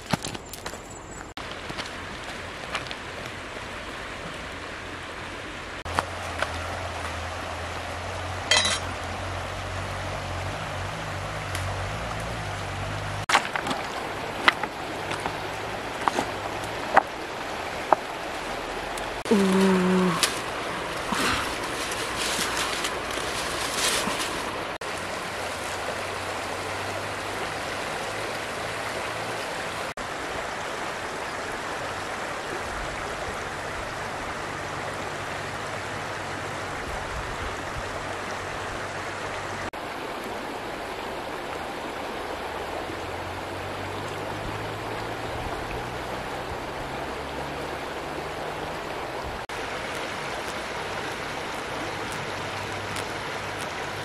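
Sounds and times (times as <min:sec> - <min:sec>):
river water rushing over stones: 0:00.0 - 0:54.0.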